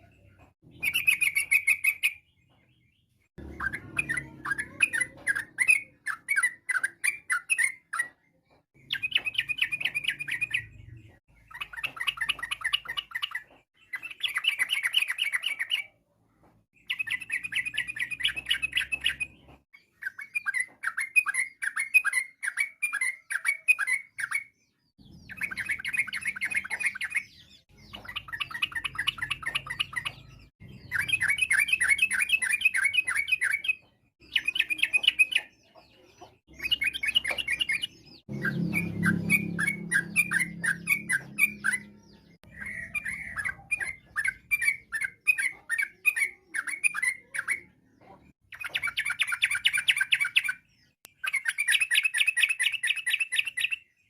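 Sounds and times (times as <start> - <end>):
bird chattering song: 0.0 - 54.0.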